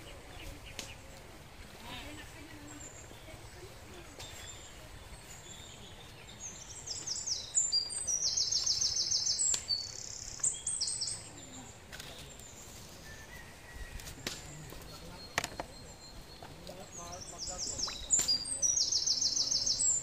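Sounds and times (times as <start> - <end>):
bird singing trills: 1.8 - 20.0.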